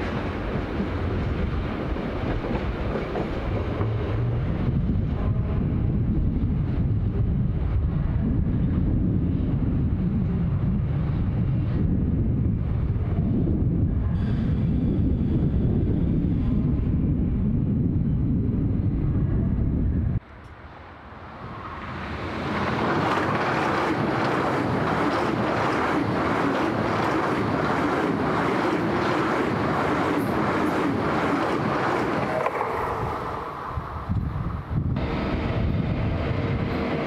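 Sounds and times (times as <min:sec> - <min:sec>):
wind on microphone: 0:00.0 - 0:20.2, 0:21.4 - 0:37.0
high-speed train passing: 0:00.0 - 0:37.0.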